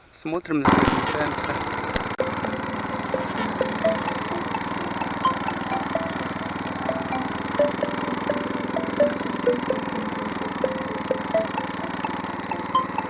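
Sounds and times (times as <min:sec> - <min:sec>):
ringing metallic pings: 0:02.2 - 0:13.0
walk-behind tractor engine running: 0:02.3 - 0:13.0.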